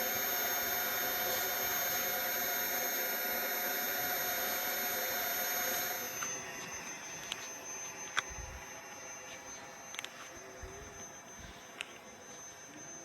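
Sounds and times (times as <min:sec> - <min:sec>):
electric air pump whirring: 0:00.0 - 0:13.0.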